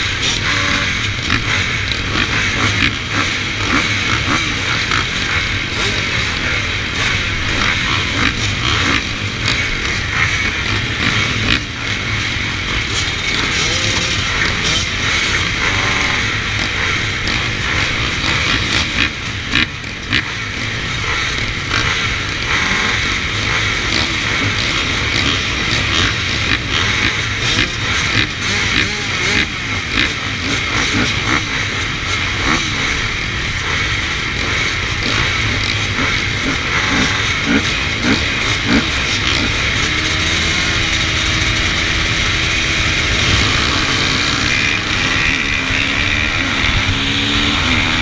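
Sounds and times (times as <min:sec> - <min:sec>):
dirt bikes idling: 0:00.0 - 0:48.0
motorcycle throttle revs: 0:00.0 - 0:48.0.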